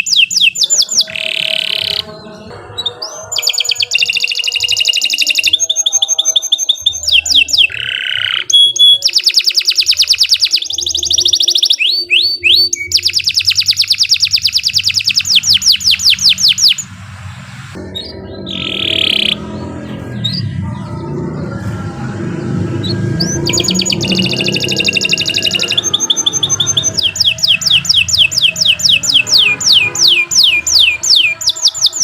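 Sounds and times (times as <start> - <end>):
canary singing trills: 0.0 - 16.9, 17.8 - 32.0.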